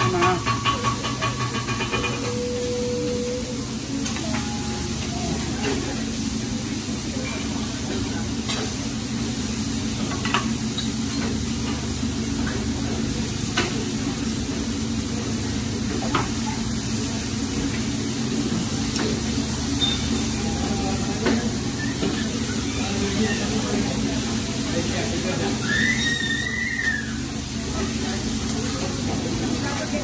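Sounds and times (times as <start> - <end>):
meat sizzling on a griddle: 4.1 - 30.0.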